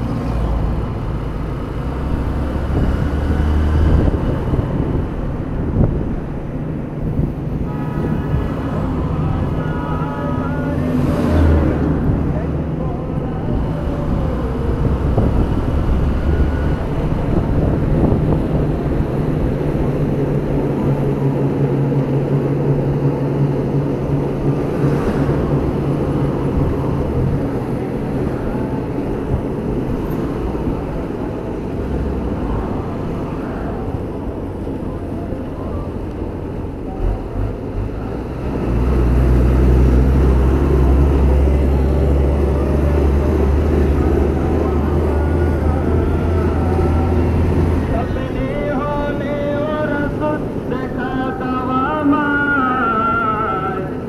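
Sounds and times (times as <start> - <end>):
motorcycle engine rumbling: 0.0 - 51.4.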